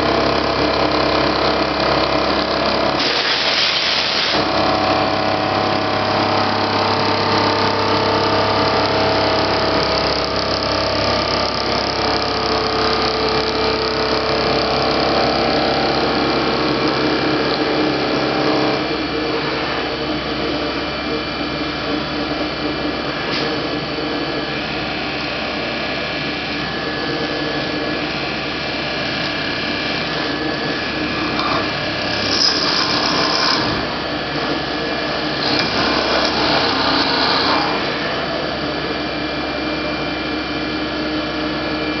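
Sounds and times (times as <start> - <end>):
mill cutting metal: 0.0 - 42.0
milling machine whine: 0.0 - 42.0.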